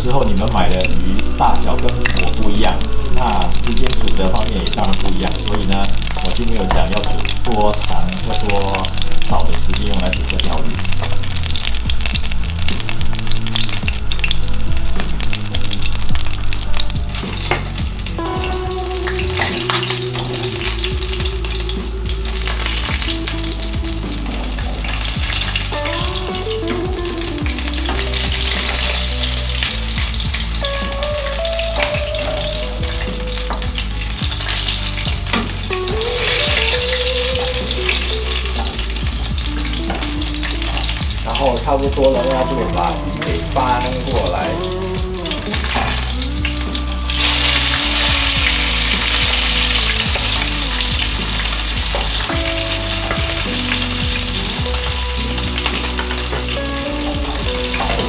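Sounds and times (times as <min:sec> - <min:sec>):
fish sizzling in hot oil: 0:00.0 - 0:58.0.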